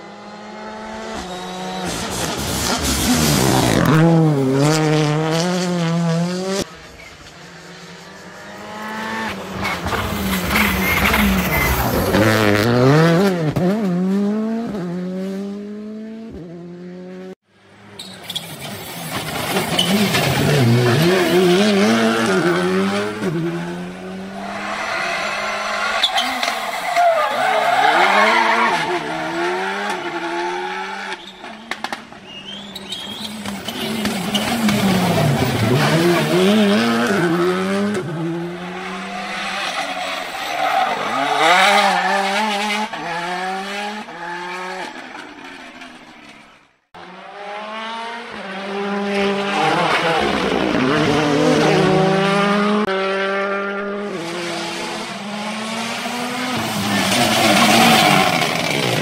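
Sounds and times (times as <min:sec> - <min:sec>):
rally cars passing at full speed: 0:00.0 - 0:59.0.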